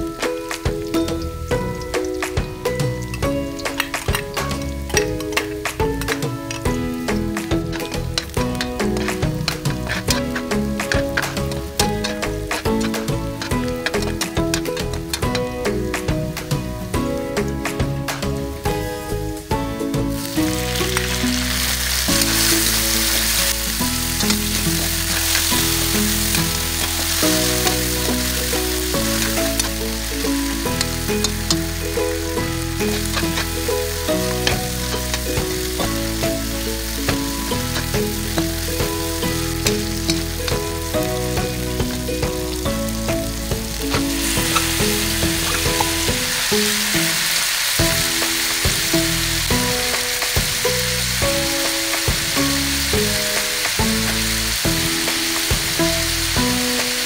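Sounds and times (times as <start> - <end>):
onion sizzling in oil: 0.0 - 57.0
metal spatula scraping a wok: 0.4 - 16.6, 20.1 - 57.0.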